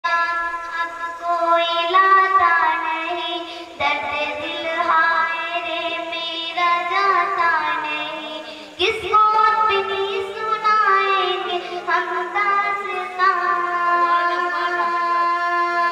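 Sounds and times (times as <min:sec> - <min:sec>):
girl singing devotional poem: 0:00.0 - 0:15.9.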